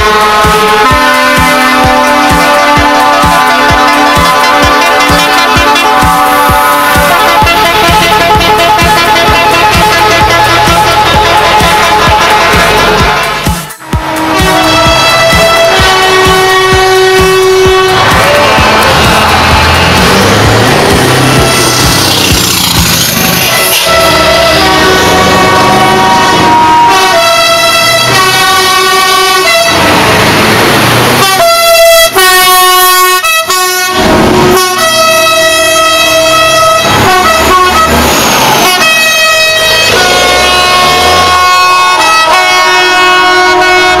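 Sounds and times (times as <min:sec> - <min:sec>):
rushing noise: 0:00.0 - 0:32.2, 0:33.9 - 0:42.0
truck air horns blasting: 0:00.0 - 0:44.0.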